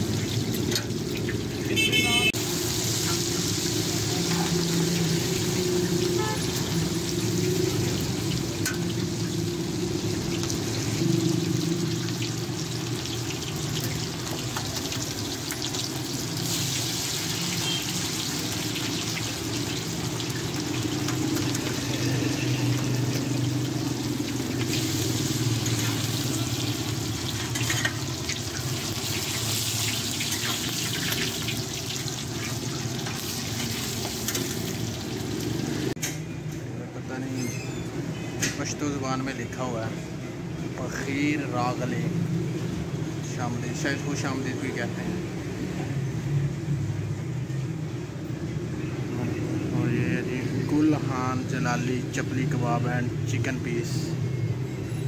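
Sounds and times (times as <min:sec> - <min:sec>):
kebabs sizzling in hot oil: 0:00.0 - 0:36.0, 0:37.8 - 0:54.9.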